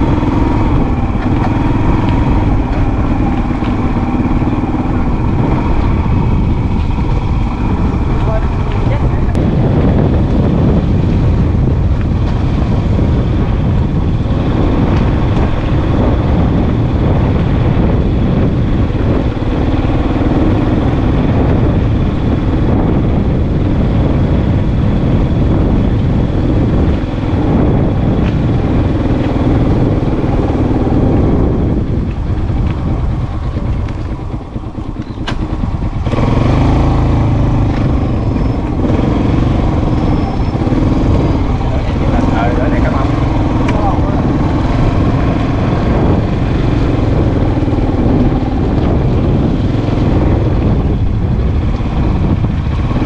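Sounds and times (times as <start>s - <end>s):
motorbike engine running: 0.0s - 53.0s.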